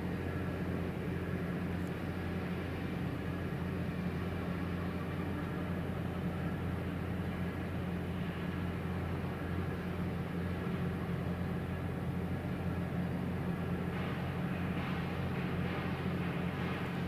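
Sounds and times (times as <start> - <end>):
ship diesel engine droning: 0.0 - 17.0.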